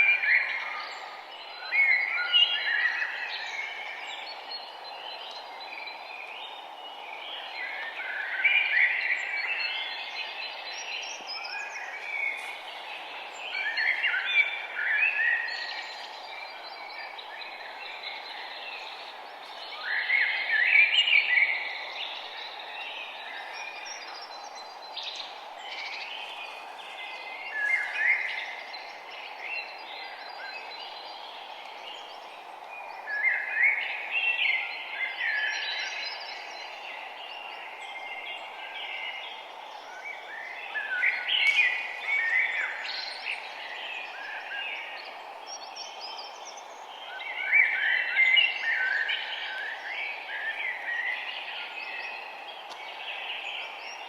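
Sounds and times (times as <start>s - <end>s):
songbirds warbling: 0.0s - 54.0s
steady background hiss: 0.0s - 54.0s.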